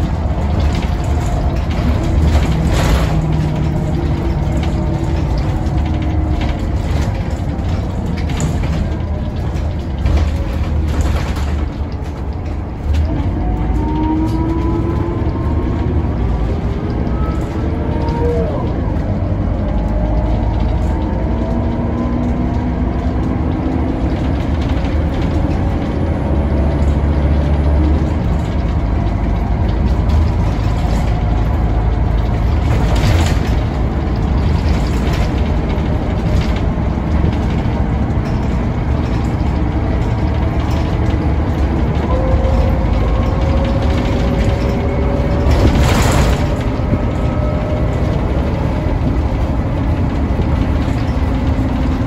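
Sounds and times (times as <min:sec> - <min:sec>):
bus diesel engine drone: 0:00.0 - 0:52.0
rising engine whine: 0:00.0 - 0:52.0.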